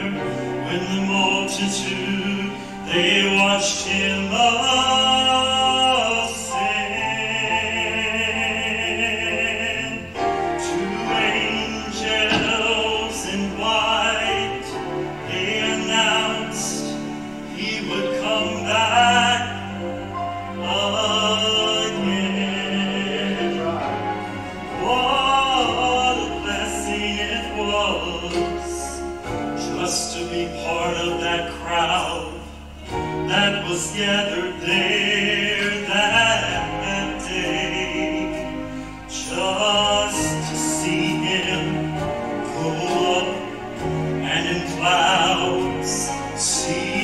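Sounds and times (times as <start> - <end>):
man singing into a microphone: 0.0 - 24.2, 24.8 - 43.6, 44.2 - 47.0
amplified musical accompaniment: 0.0 - 47.0.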